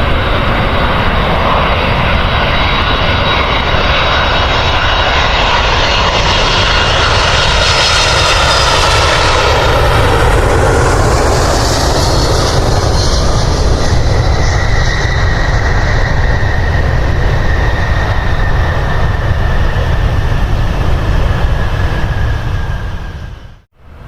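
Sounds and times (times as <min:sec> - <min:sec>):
jet engines roaring with high whine: 0:00.0 - 0:24.0.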